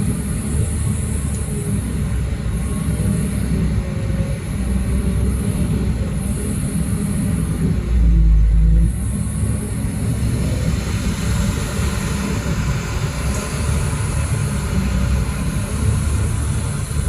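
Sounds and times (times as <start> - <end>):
diesel engine rumbling: 0.0 - 17.0
thin high whine: 0.0 - 17.0.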